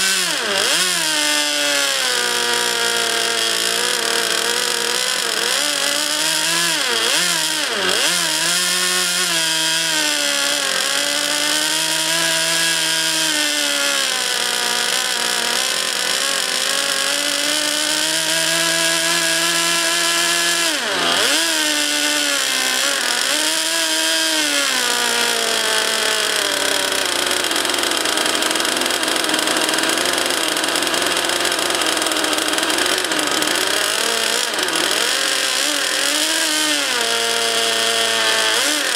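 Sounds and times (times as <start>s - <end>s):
model jet engine running: 0.0s - 38.9s.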